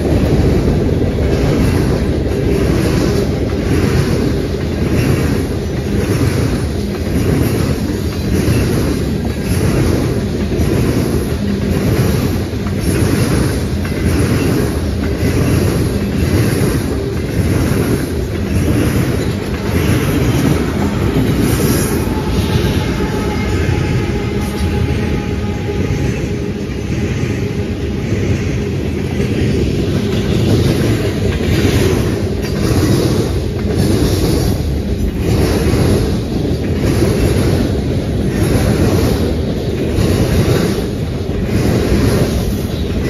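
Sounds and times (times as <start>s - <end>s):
diesel locomotive engine: 0.0s - 43.0s
freight train rumbling past: 0.0s - 43.0s
train wheels clicking: 0.0s - 43.0s.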